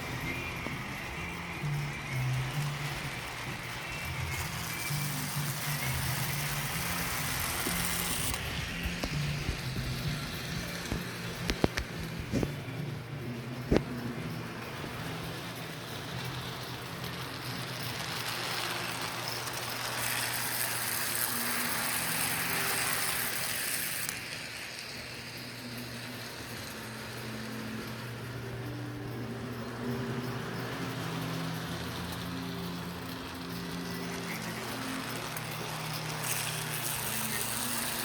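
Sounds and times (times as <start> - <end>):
toy train motor hum: 0.0 - 38.0.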